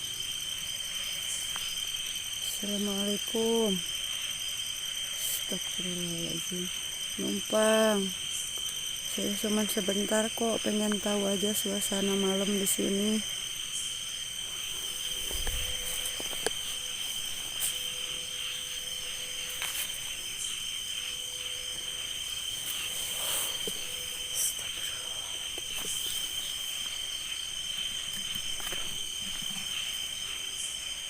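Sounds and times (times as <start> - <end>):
crickets and insects trilling: 0.0 - 31.0.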